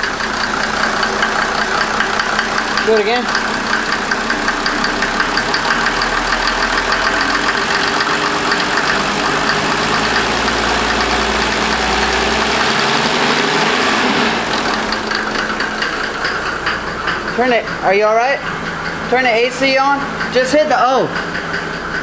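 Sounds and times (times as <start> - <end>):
diesel engine running: 0.0 - 22.0
rhythmic engine knock: 0.0 - 22.0.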